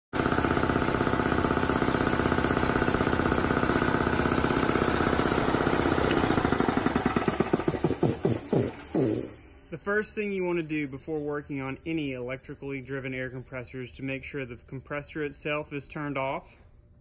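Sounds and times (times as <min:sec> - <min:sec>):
air compressor pump pulsing: 0:00.2 - 0:15.2.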